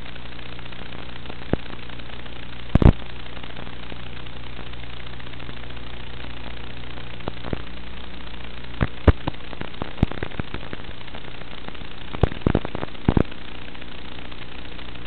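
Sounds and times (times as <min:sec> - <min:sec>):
electrical hum and hiss: 0:00.0 - 0:15.0
sharp crackles and pops: 0:00.0 - 0:15.0.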